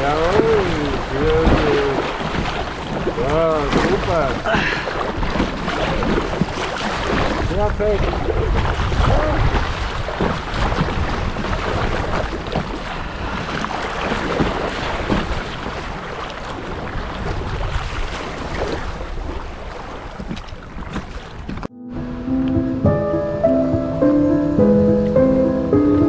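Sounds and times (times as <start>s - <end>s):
river water splashing against kayak: 0.0s - 21.7s
wind rumbling on microphone: 0.0s - 21.7s.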